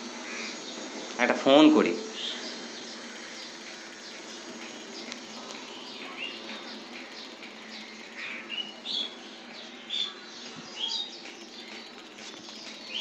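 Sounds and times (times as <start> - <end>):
faint steady hum: 0.0 - 13.0
small birds chirping: 0.0 - 13.0.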